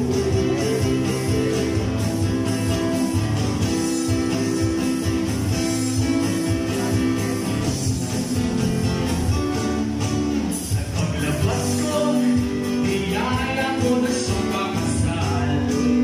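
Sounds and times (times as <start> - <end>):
steady beat: 0.0 - 16.0
strummed acoustic guitar: 0.0 - 16.0.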